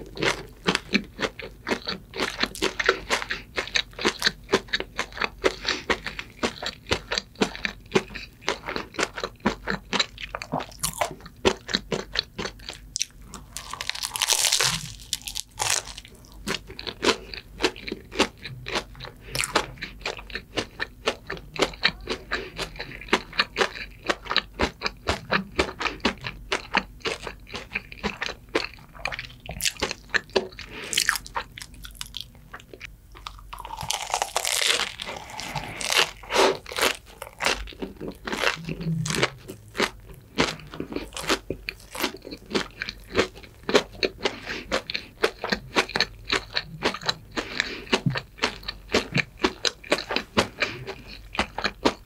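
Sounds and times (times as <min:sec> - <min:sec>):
crunching and chewing: 0:00.0 - 0:52.0.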